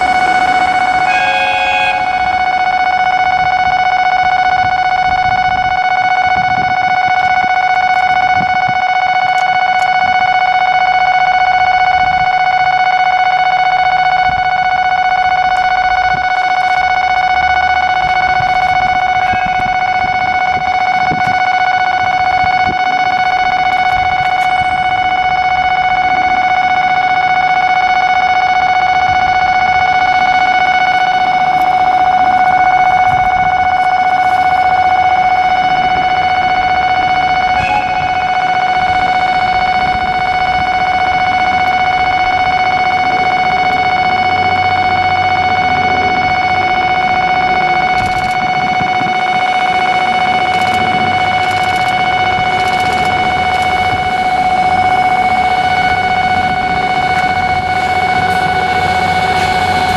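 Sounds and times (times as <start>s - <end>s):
electronic warning tone: 0.0s - 59.9s.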